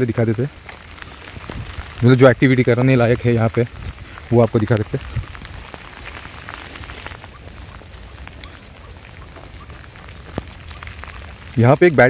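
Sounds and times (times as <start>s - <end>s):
light rain hissing: 0.0s - 12.0s
raindrop ticks: 0.0s - 12.0s.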